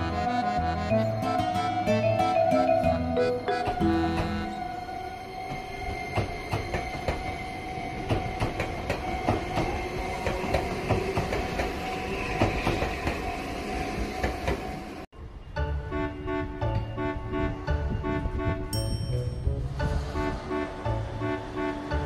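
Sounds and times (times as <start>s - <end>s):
train humming: 0.0s - 22.0s.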